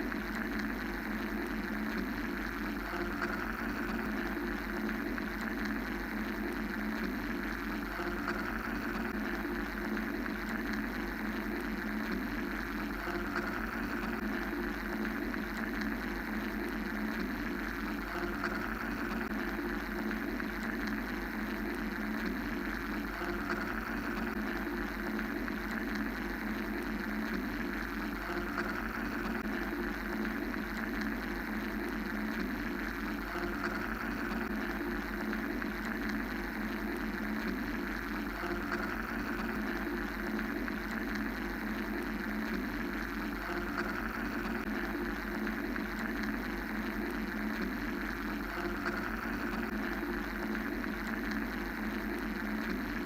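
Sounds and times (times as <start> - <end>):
mechanical white noise drone: 0.0 - 53.0.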